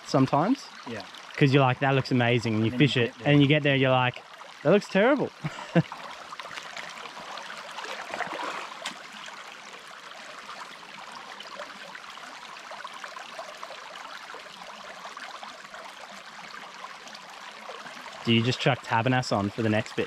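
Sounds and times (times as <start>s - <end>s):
creek babbling over stones: 0.0s - 20.0s.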